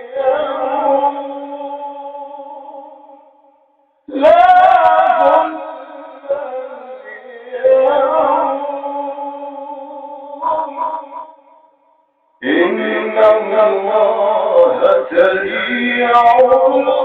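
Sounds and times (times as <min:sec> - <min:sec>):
man chanting melodically: 0:00.0 - 0:03.2, 0:04.1 - 0:11.6, 0:12.4 - 0:17.0.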